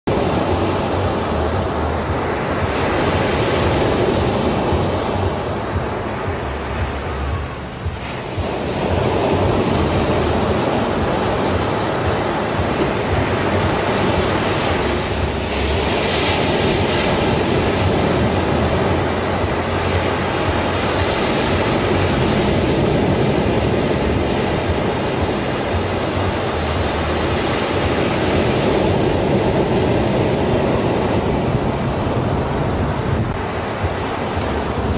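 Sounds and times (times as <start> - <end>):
waves breaking on a sandy beach: 0.1 - 34.9.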